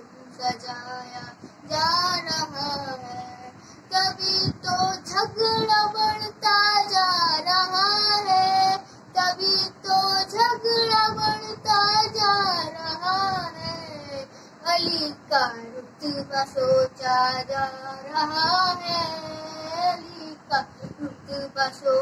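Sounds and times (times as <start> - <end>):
boy singing: 0.0 - 22.0.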